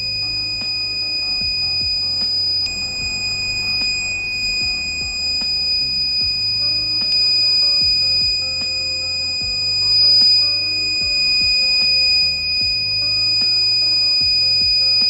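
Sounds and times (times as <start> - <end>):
background music with steady beat: 0.0 - 15.0
high-pitched alarm buzzer: 0.0 - 15.0.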